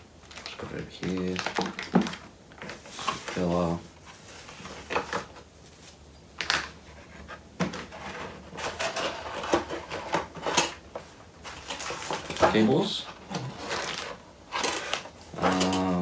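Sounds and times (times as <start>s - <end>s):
cardboard and foam rustling: 0.3s - 6.0s, 6.6s - 16.0s.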